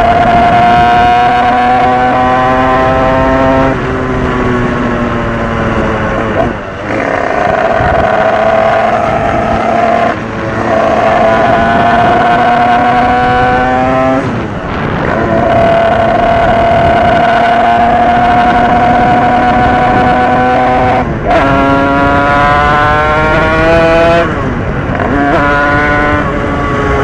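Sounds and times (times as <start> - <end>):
dirt bike engine revving high: 0.0 - 4.2, 5.2 - 27.0.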